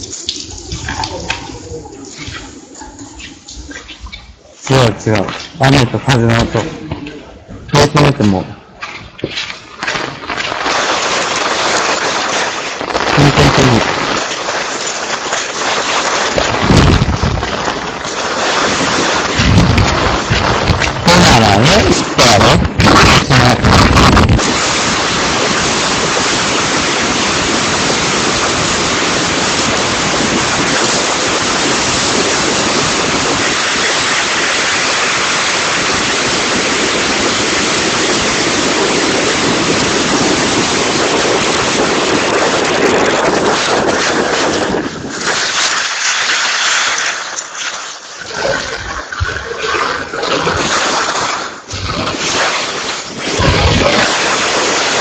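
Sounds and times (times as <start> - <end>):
wind and rain buffeting microphone: 0.0 - 55.0.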